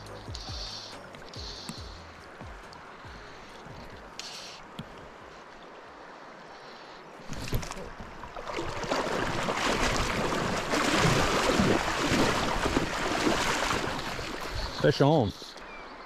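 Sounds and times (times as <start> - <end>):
river water splashing: 0.0 - 16.0.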